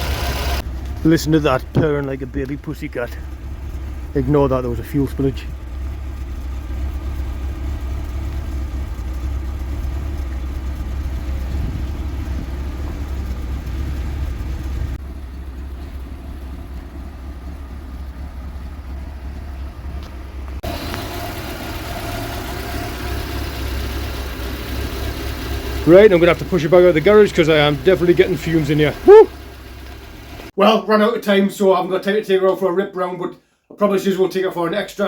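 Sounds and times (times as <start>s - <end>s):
car engine idling: 0.0s - 30.6s.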